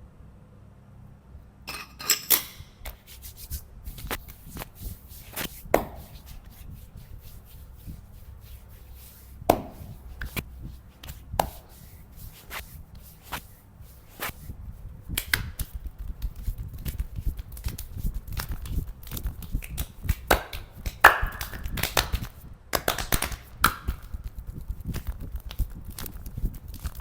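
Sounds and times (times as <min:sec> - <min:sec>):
hands rubbing skin: 0:02.8 - 0:27.0
hands slapping skin: 0:02.8 - 0:27.0.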